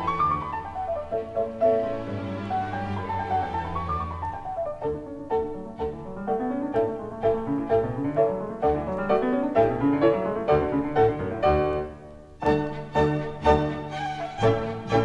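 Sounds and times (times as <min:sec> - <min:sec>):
classical piano music: 0:00.0 - 0:15.0.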